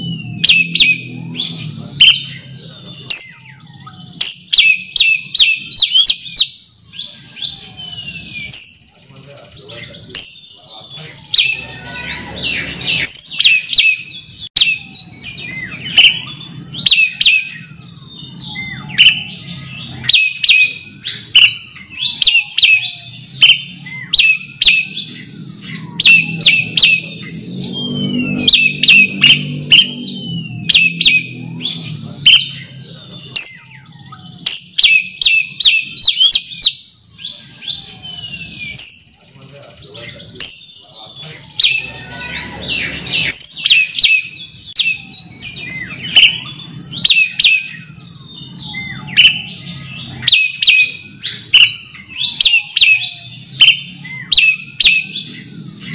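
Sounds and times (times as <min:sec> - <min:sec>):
bird singing whistled notes: 0:00.0 - 0:55.9.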